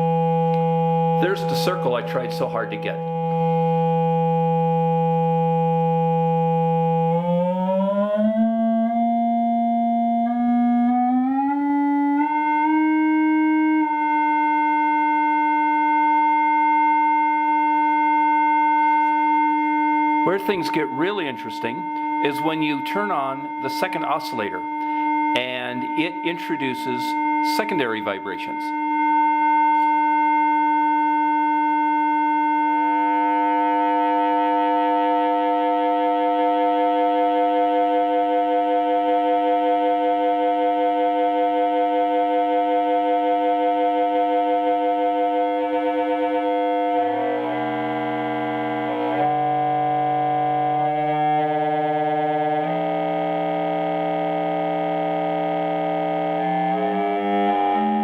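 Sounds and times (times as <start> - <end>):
electronic tone rising in pitch: 0.0 - 58.0.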